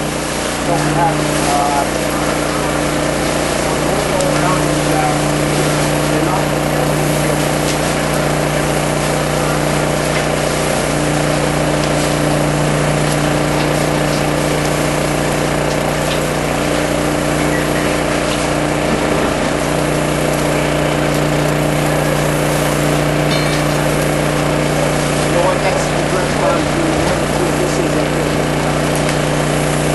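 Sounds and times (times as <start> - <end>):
engine droning: 0.0 - 29.9
fire hose stream hissing: 0.0 - 29.9.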